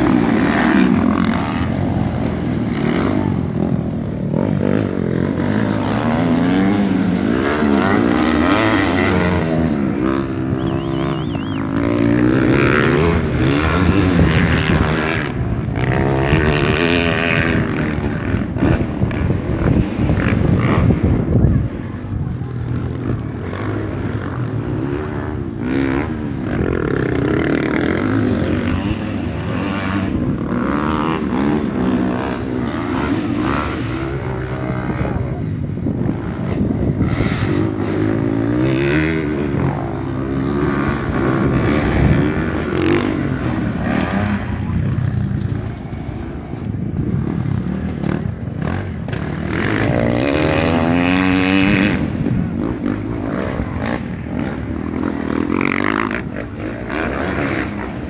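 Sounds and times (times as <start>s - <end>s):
motorcycle engines revving and passing: 0.0s - 58.0s.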